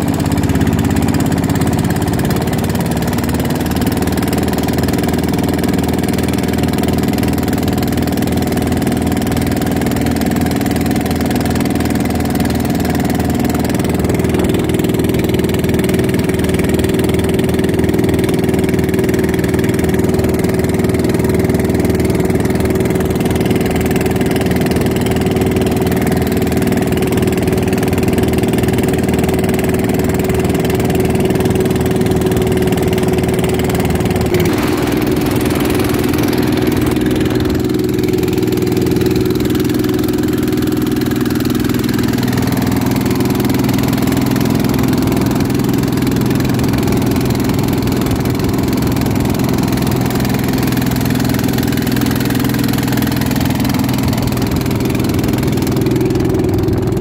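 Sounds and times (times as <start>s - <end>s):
boat engine running: 0.0s - 57.0s
water rushing along a hull: 0.0s - 57.0s.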